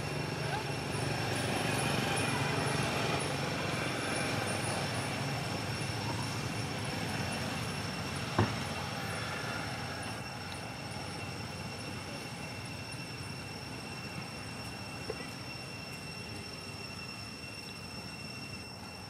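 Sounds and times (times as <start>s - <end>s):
faint high steady tones: 0.0s - 19.0s
rumble and hiss of open air: 0.0s - 19.0s.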